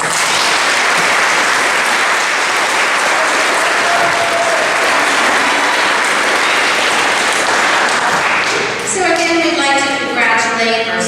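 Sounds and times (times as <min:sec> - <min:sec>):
audience applause: 0:00.0 - 0:09.4.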